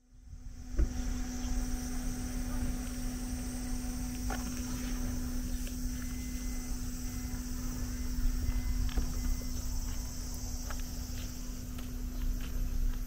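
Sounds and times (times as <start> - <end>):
constant low hum: 0.0 - 13.0
insects chorus: 0.0 - 13.0
low rumble: 0.0 - 13.0.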